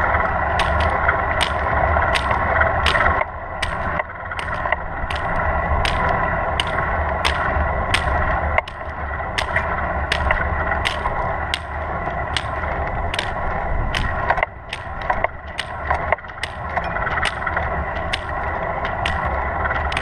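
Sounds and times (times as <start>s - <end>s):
hiking pole tips clicking on asphalt: 0.0s - 20.0s
wheelchair wheels rolling on pavement: 0.0s - 20.0s.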